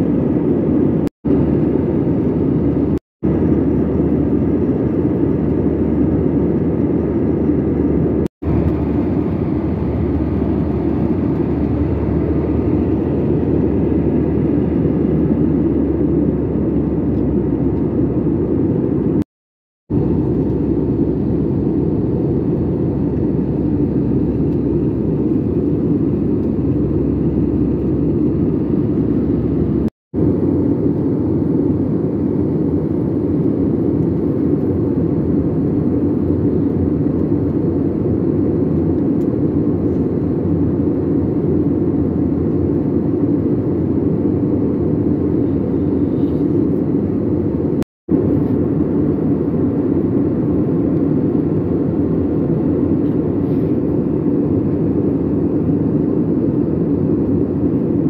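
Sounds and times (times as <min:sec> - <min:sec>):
airliner cabin engine drone: 0:00.0 - 0:19.3, 0:19.9 - 0:58.0.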